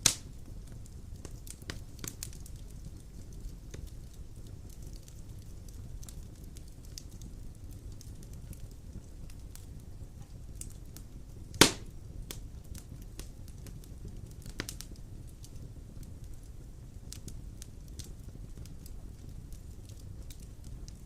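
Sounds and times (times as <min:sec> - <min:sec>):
fire rumbling: 0:00.0 - 0:21.0
logs crackling and popping: 0:00.0 - 0:21.0.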